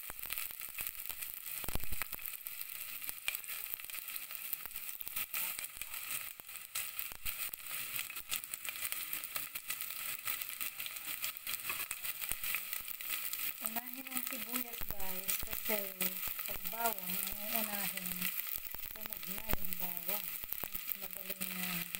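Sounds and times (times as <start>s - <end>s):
onion sizzling in hot oil: 0.0s - 21.9s.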